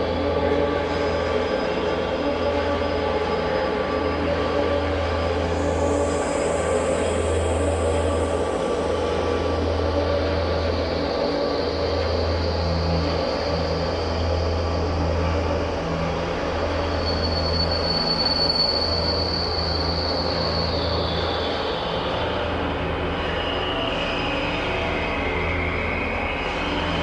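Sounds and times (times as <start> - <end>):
thin high whine: 0.0 - 27.0.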